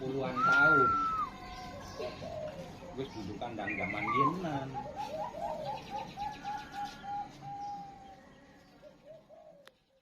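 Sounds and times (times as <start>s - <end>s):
dove cooing: 0.2s - 3.1s, 3.7s - 9.8s.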